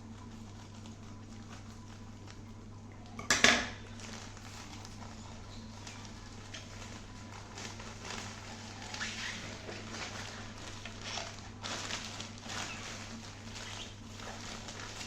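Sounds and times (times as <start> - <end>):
packaging rustling and crinkling: 0.0 - 2.6, 3.7 - 15.0
steady low hum: 0.0 - 15.0.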